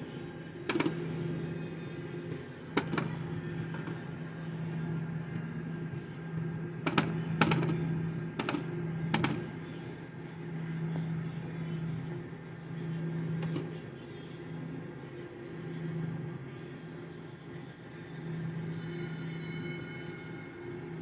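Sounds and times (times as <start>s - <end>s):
slot machine game hum: 0.0s - 21.0s.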